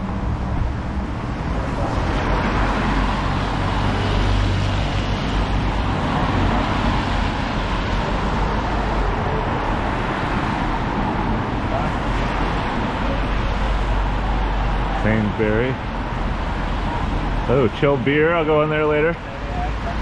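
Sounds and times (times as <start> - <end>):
traffic on wet road: 0.0 - 20.0.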